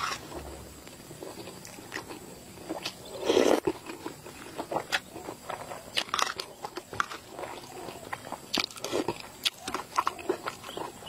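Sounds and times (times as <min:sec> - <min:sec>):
chewing with wet mouth smacks: 0:01.1 - 0:11.0.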